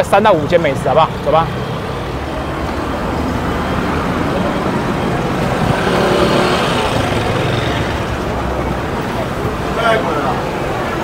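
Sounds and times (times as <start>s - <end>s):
motor scooter passing: 0.4s - 11.0s.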